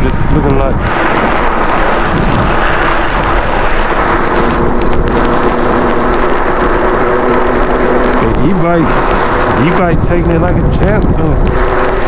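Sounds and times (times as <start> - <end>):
electric motor whine: 0.0 - 12.0
wind rushing on microphone: 0.0 - 12.0.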